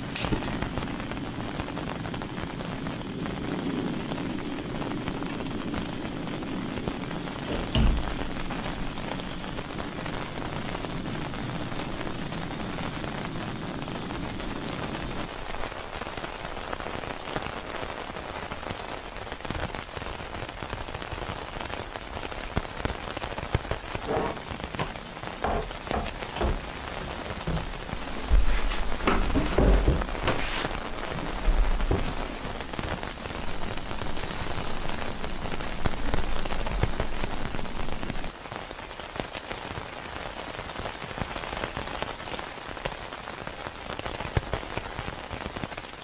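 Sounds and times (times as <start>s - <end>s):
louder raindrops: 0.0s - 46.0s
steady rain falling: 0.0s - 46.0s.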